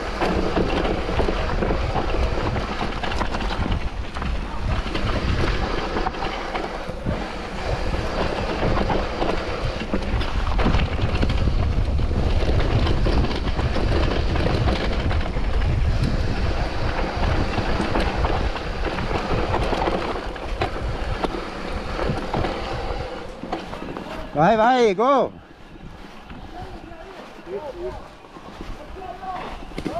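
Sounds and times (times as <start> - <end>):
bike clattering: 0.0 - 29.9
tyres rumbling over dirt and stones: 0.0 - 29.9
wind buffeting microphone: 0.0 - 29.9.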